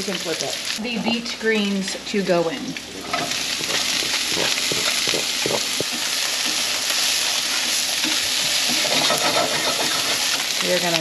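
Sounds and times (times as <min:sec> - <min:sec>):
fish fillets sizzling in a pan: 0:00.0 - 0:02.0, 0:02.6 - 0:11.0
greens sauteing in a pan: 0:00.0 - 0:11.0.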